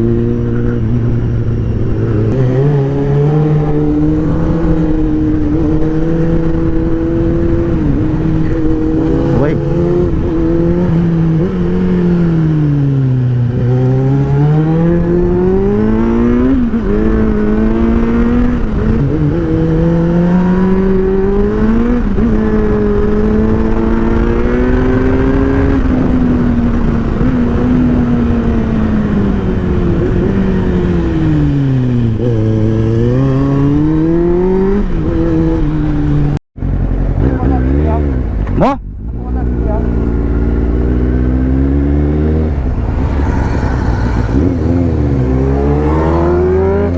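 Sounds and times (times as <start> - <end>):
motorbike engine revving: 0.0 - 36.4, 37.1 - 46.9.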